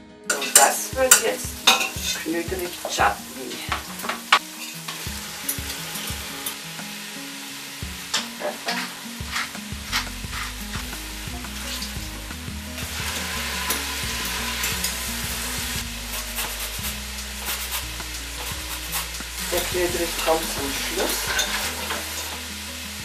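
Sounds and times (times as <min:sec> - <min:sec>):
sizzling in a pot: 0:00.3 - 0:23.0
steady hiss: 0:00.4 - 0:23.0.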